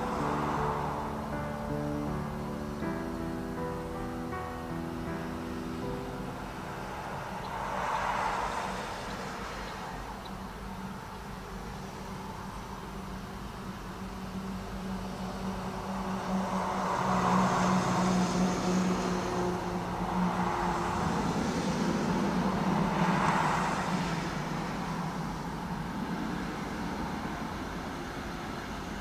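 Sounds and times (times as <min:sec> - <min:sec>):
cars passing: 0:00.0 - 0:29.0
steady low hum: 0:00.0 - 0:29.0.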